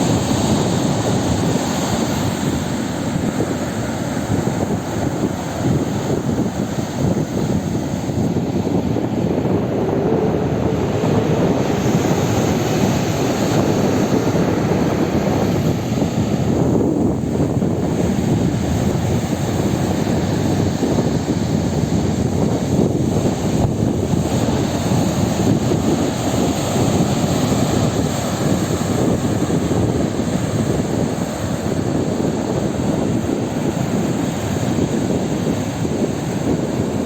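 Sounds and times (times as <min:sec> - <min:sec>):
sea surf roar: 0:00.0 - 0:37.0.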